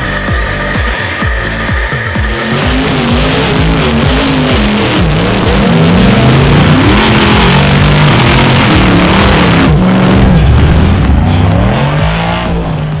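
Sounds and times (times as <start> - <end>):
loud rushing noise: 0.0 - 13.0
race car engine revving: 0.0 - 13.0.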